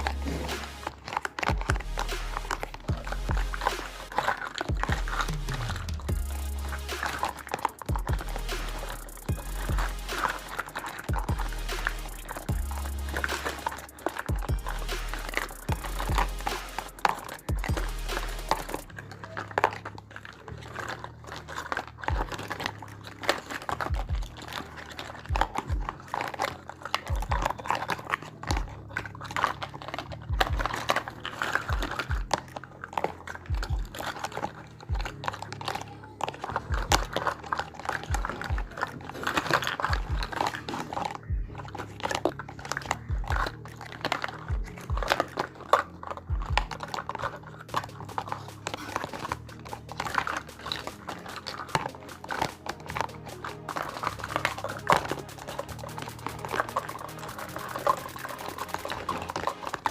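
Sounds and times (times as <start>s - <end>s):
small plastic pieces clicking: 0.0s - 59.9s
wrapping crinkling: 0.0s - 59.9s.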